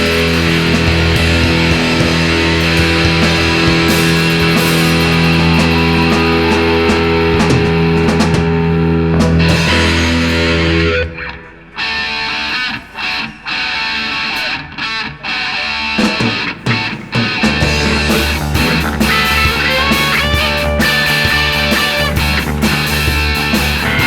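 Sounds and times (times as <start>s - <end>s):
distorted electric guitar rock: 0.0s - 24.0s.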